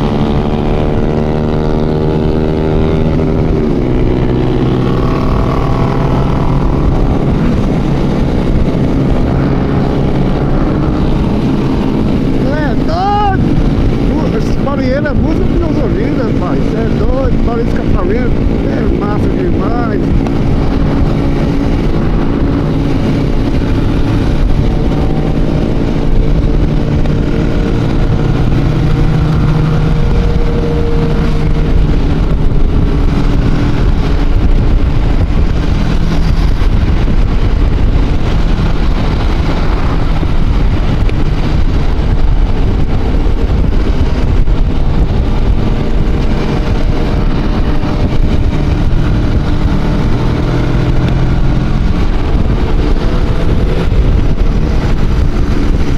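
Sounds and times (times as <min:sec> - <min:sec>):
motorcycle engines rumbling: 0:00.0 - 0:55.9.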